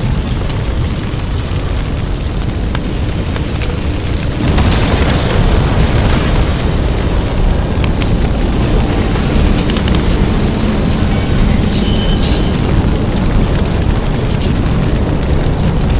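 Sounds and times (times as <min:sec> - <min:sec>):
blast furnace roar: 0:00.0 - 0:15.9.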